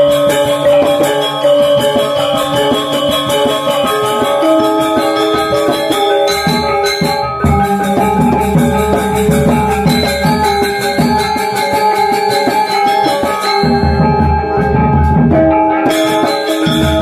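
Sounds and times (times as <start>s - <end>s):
gamelan orchestra playing: 0.0s - 17.0s.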